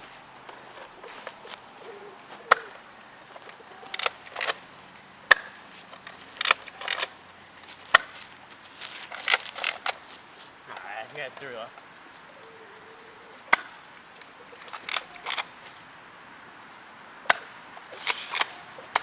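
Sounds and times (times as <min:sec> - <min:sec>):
rustling movement: 0:00.0 - 0:16.5.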